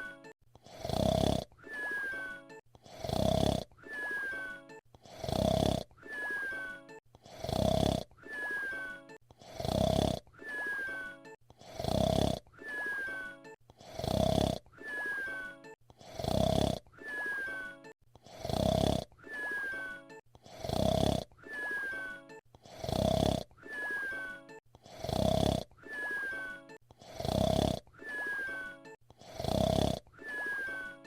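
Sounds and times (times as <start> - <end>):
cartoon whistle snore: 0.0 - 31.0.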